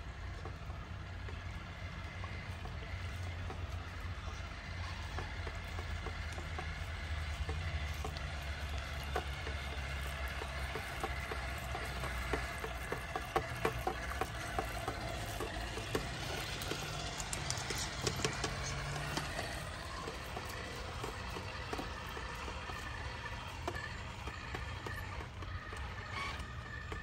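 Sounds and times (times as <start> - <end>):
low motor hum: 0.0 - 27.0
tyres clicking on wet stones: 1.5 - 27.0.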